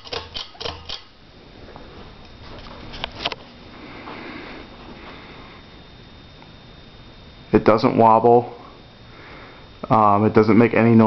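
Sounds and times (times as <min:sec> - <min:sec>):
ceiling fan hissing: 0:00.0 - 0:11.0.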